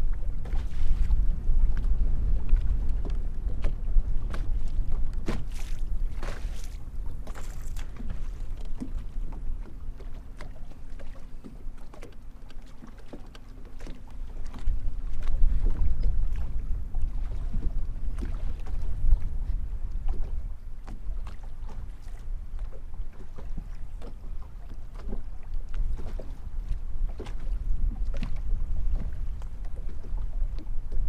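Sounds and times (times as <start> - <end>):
water lapping against boat hull: 0.0 - 31.0
wind rumbling on microphone: 0.0 - 31.0.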